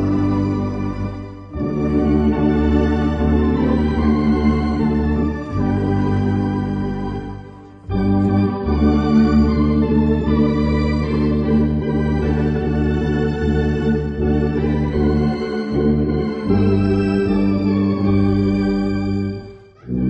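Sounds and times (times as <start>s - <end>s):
electronic organ: 0.0s - 20.0s
tuba: 0.0s - 20.0s.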